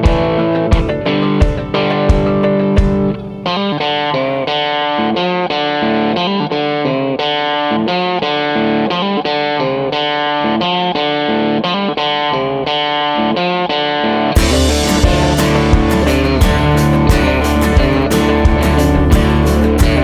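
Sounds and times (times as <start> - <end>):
electric guitar plucked notes: 0.0 - 20.0.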